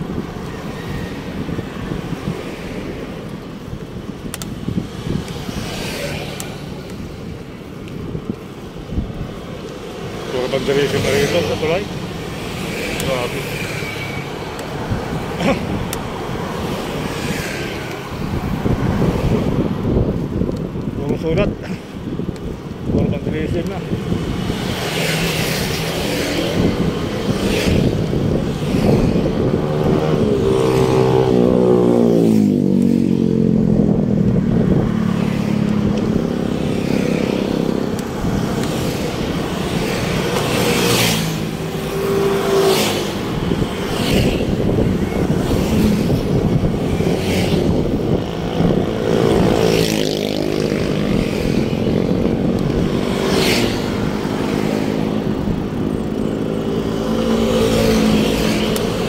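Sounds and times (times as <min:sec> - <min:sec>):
traffic din: 0:00.0 - 0:59.0
vehicles passing close by: 0:00.0 - 0:59.0.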